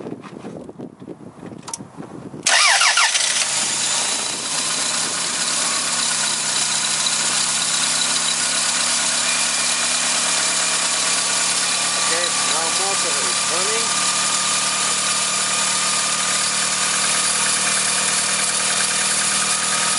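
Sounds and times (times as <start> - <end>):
car engine starting and idling: 2.4 - 19.9.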